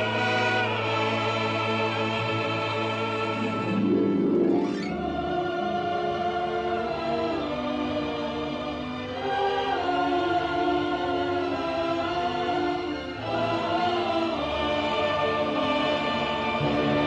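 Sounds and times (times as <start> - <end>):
choir singing long held notes: 0.0 - 17.0
orchestral film score: 0.0 - 17.0.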